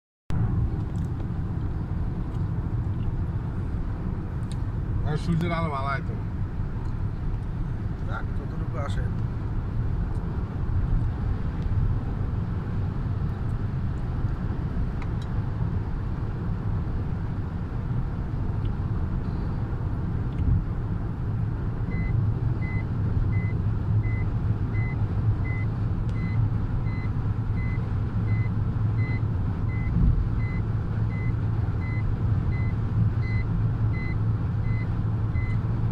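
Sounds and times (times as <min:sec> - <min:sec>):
road and engine noise in car: 0:00.3 - 0:35.9.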